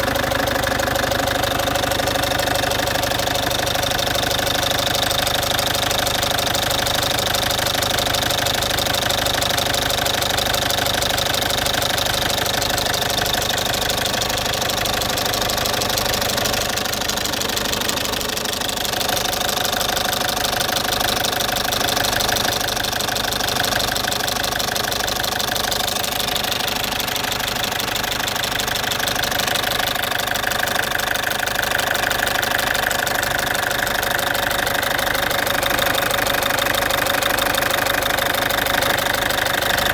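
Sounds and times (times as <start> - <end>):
diesel engine running: 0.0 - 39.9
fast engine ticking: 0.0 - 39.9.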